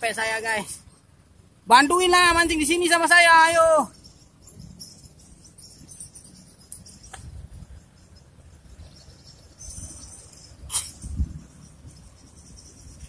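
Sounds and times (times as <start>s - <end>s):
insects chirring: 1.9s - 13.0s.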